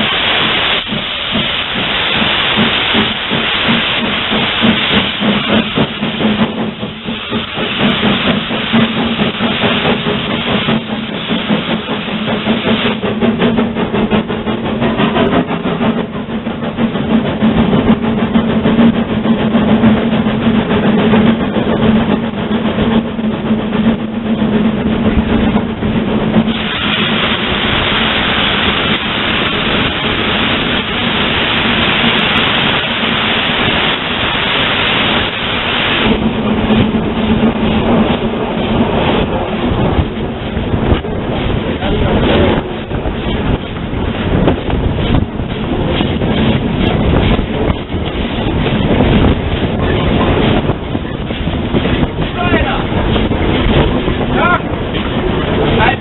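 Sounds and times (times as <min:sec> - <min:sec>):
steam hissing: 0:00.0 - 0:56.0
steam locomotive exhaust beat: 0:00.0 - 0:56.0.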